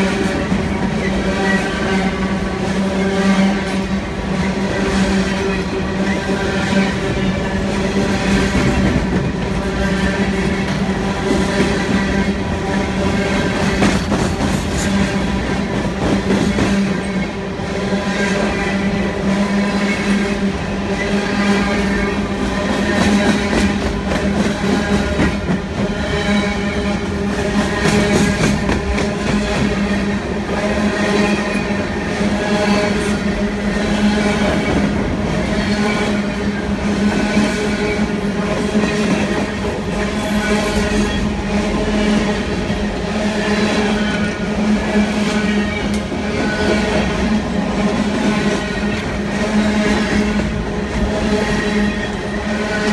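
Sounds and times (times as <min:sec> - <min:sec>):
train wheels rumbling and clattering: 0:00.0 - 0:52.9.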